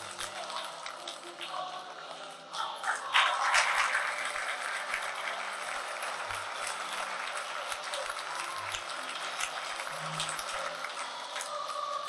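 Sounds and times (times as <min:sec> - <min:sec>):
audience applauding: 0:00.0 - 0:02.0, 0:02.6 - 0:12.0.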